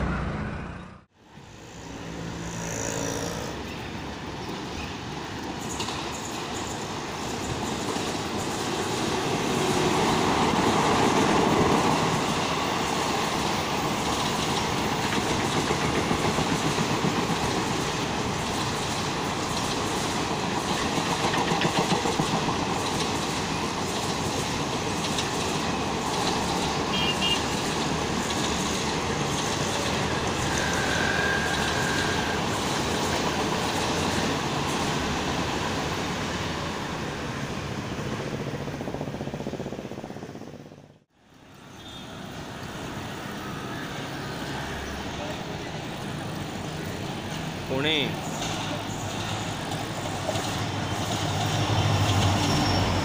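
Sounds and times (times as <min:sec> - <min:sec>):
passenger train rolling past: 0:00.0 - 0:53.0.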